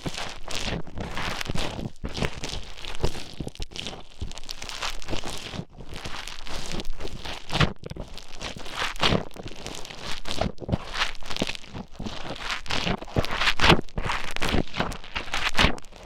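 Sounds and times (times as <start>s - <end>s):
foam crackling and squelching: 0.0s - 16.0s.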